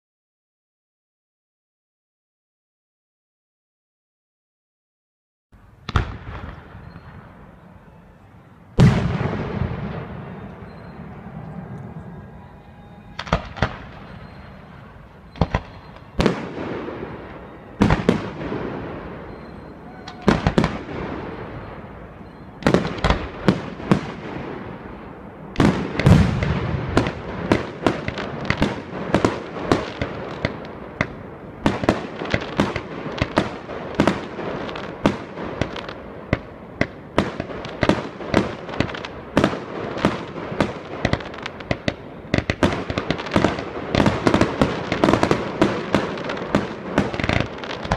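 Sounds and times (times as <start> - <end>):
fireworks bursting with bangs: 5.8 - 47.9.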